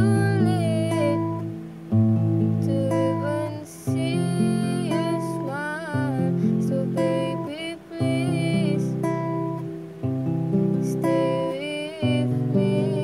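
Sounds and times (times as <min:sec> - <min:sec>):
person singing: 0:00.0 - 0:01.5, 0:02.6 - 0:09.6, 0:10.8 - 0:13.0
acoustic guitar chords: 0:00.0 - 0:13.0.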